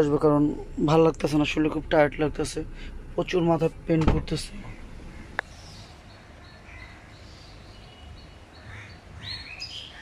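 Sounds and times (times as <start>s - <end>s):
low outdoor rumble: 0.0s - 10.0s
small birds chirping: 1.3s - 10.0s.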